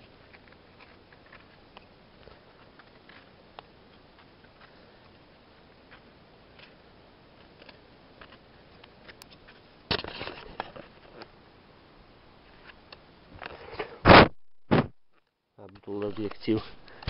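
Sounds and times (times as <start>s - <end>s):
crackling handling noise: 0.0s - 11.4s, 12.4s - 17.0s.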